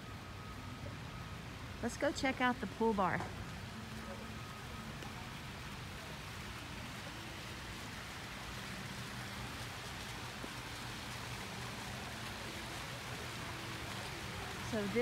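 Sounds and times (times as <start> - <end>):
falling water hissing and pattering: 1.5 - 15.0.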